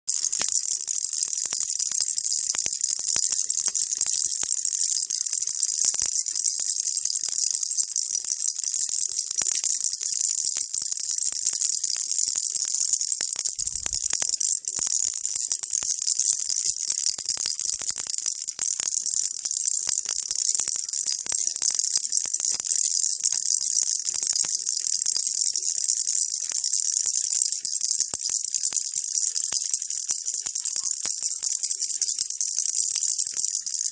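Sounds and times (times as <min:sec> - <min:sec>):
baby rattle shaking: 0:00.1 - 0:33.9.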